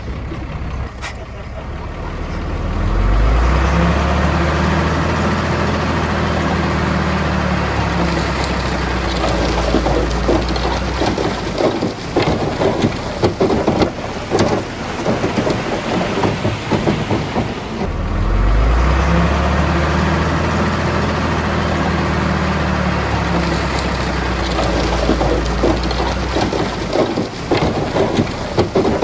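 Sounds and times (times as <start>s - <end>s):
bulldozer diesel engine droning: 0.0s - 29.0s
rocks and dirt tumbling and scraping: 2.2s - 29.0s.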